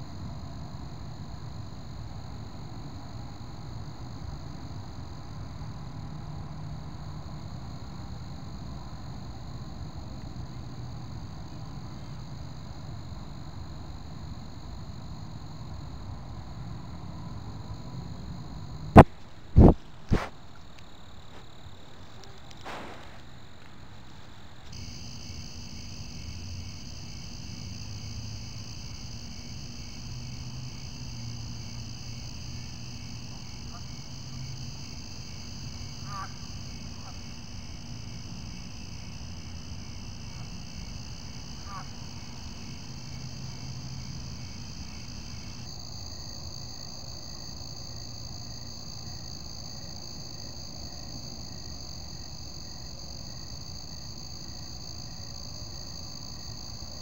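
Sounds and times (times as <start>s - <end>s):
crickets trilling: 0.0s - 57.0s
faint pulsing insect call: 0.0s - 57.0s.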